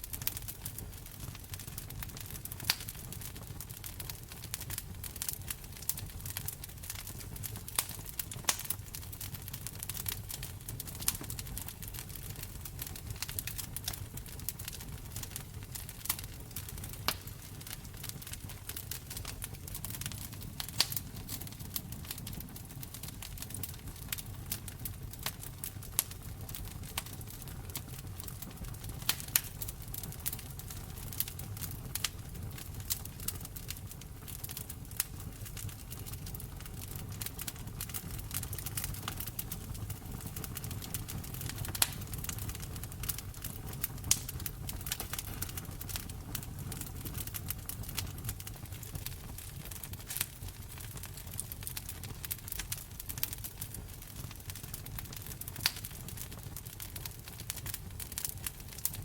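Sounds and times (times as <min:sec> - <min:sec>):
fire popping and snapping: 0:00.0 - 0:59.0
flames rumbling: 0:00.0 - 0:59.0.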